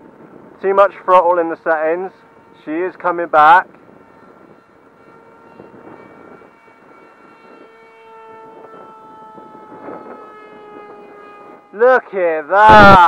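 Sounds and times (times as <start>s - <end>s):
electric propeller whine overhead: 0.0s - 13.0s.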